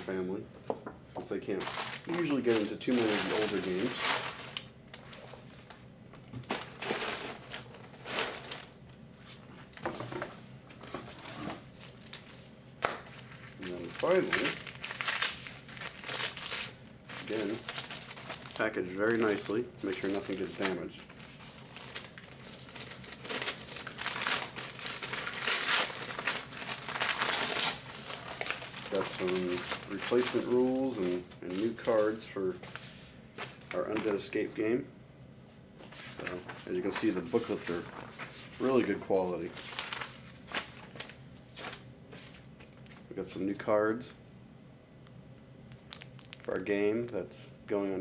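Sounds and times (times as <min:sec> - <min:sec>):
paper rustling and crinkling: 0:01.6 - 0:34.4, 0:35.8 - 0:43.1.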